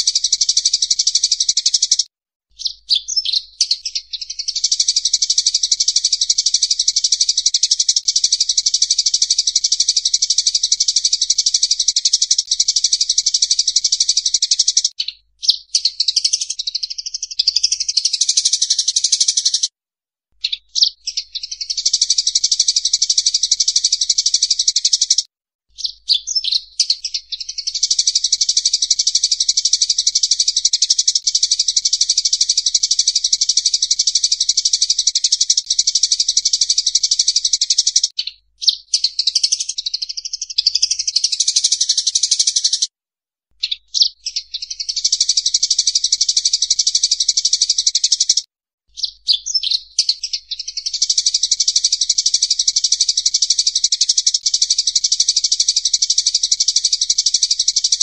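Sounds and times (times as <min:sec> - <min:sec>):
sparrows chattering: 0:00.0 - 0:19.7, 0:20.4 - 0:42.9, 0:43.6 - 0:58.0.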